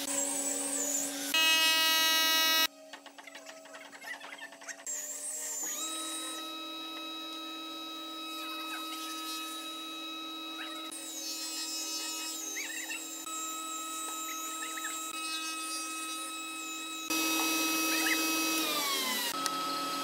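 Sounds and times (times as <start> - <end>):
spindle moulder humming and whining: 0.0 - 2.7, 5.5 - 20.0.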